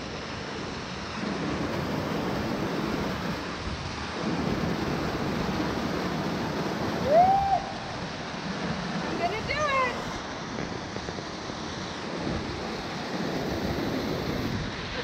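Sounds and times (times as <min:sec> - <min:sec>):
water cascading into pool: 0:00.0 - 0:15.0
wind buffeting microphone: 0:01.1 - 0:15.0.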